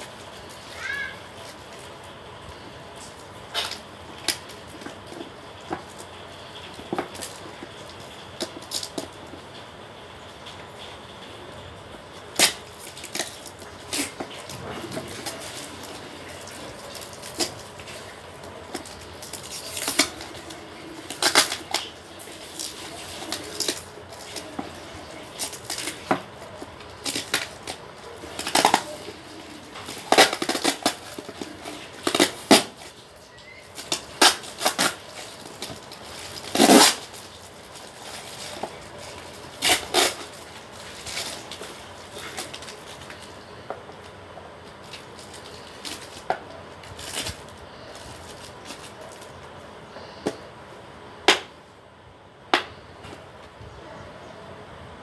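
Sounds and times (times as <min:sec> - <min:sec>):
packing tape peeling and tearing: 0:02.8 - 0:09.4, 0:12.1 - 0:50.4.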